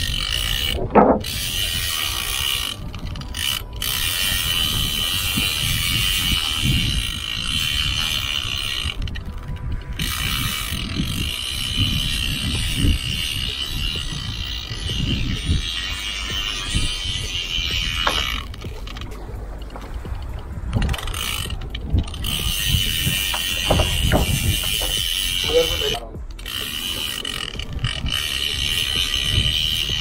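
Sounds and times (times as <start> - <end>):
fishing reel ratcheting: 0.0 - 30.0
wind rumble on microphone: 0.0 - 30.0.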